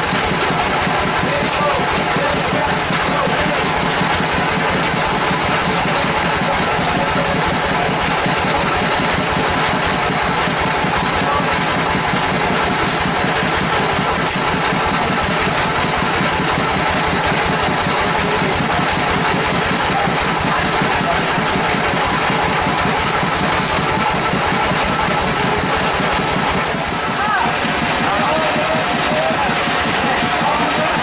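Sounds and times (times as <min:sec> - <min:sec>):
sawmill engine idling: 0:00.0 - 0:31.0.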